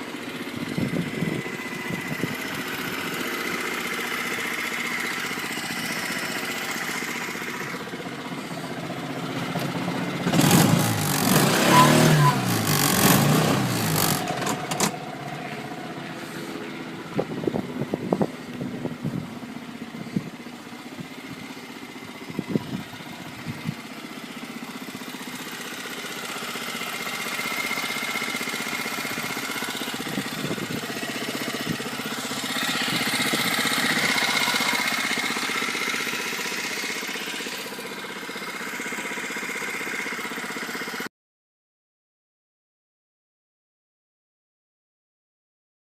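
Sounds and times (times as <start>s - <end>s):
small vehicle engine running: 0.0s - 41.1s.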